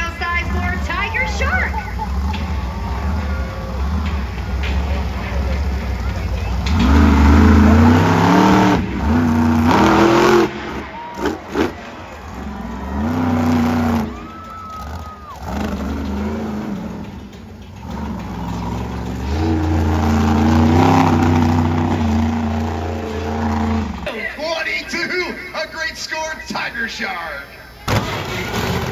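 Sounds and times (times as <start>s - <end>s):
monster truck engine revving: 0.0s - 25.6s, 27.7s - 28.9s.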